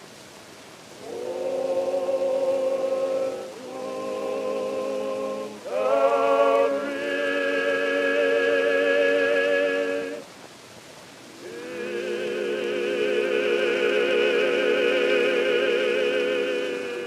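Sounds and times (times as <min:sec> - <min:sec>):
faint hiss: 0:00.0 - 0:17.0
person singing wordless notes: 0:01.0 - 0:10.3, 0:11.4 - 0:17.0.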